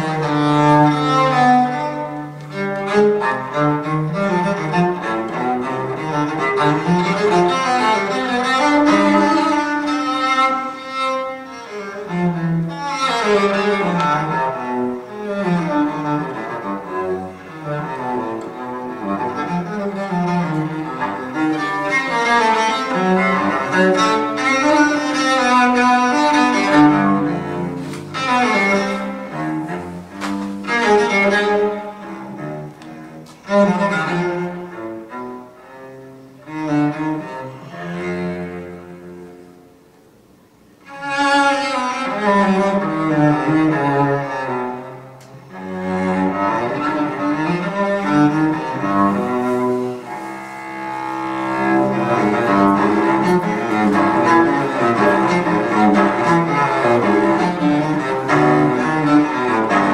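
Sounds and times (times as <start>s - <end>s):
bowed string music: 0.0s - 59.9s.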